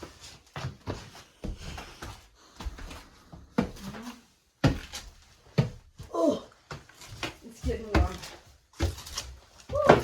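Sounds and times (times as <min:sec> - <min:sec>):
footsteps climbing stairs: 0:00.0 - 0:10.0.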